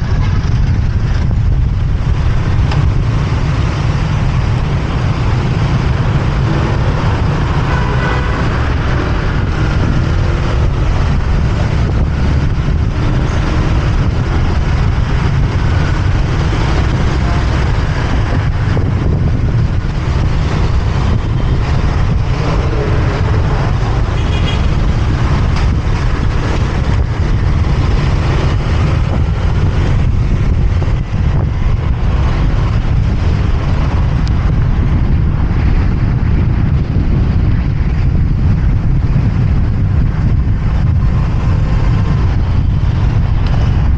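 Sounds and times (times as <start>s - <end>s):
wind and motorcycle engine rumble: 0.0s - 43.9s.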